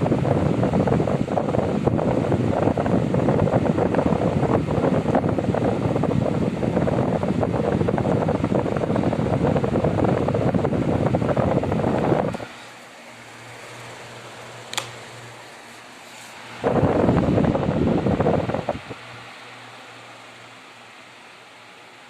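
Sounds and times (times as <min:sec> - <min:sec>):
fan air buffeting microphone: 0:00.0 - 0:22.0.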